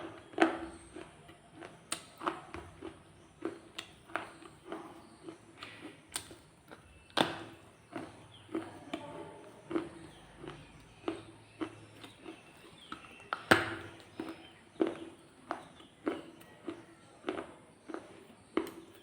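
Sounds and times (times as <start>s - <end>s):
shale being chewed with crunches: 0.0s - 19.0s.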